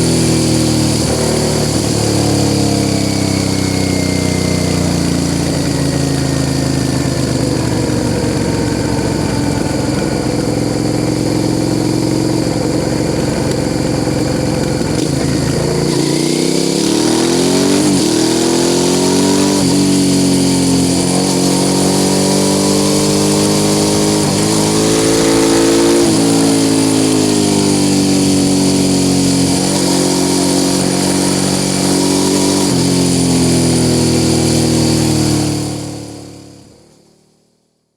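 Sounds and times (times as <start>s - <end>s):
motorcycle engine accelerating: 0.0s - 37.2s.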